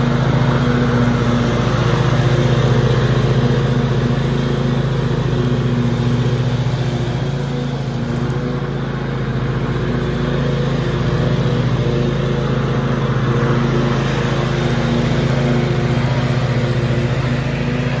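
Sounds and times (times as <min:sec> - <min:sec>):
riding lawn mower engine running: 0:00.0 - 0:18.0.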